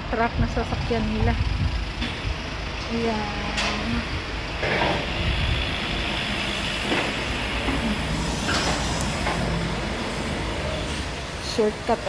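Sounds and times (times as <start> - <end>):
street noise: 0.0 - 12.0
truck engine rumbling: 0.0 - 12.0.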